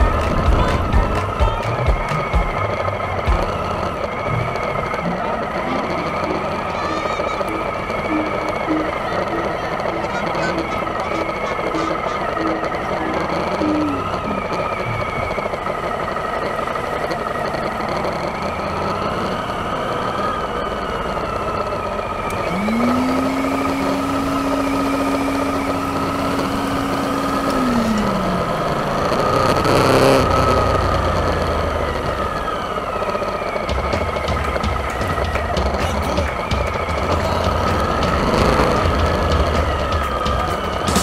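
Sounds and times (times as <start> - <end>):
motorcycle engine purring: 0.0 - 41.0.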